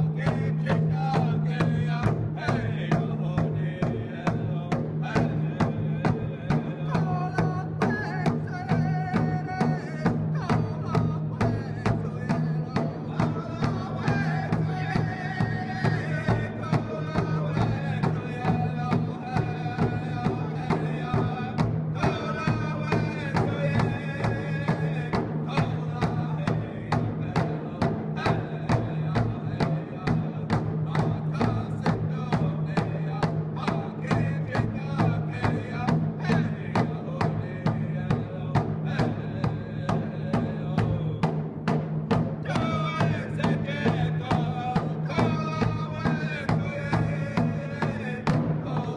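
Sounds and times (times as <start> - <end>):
music with steady drum beat: 0.0 - 48.9.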